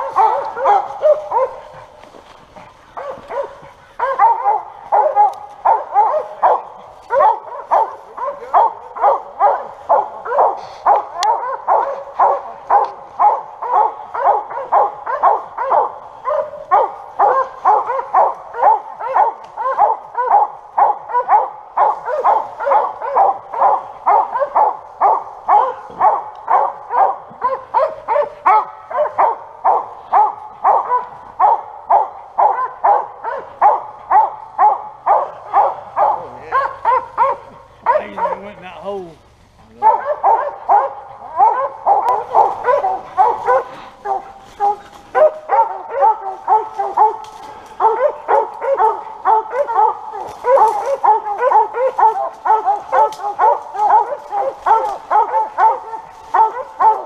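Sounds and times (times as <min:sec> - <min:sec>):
dog barking: 0:00.0 - 0:57.0.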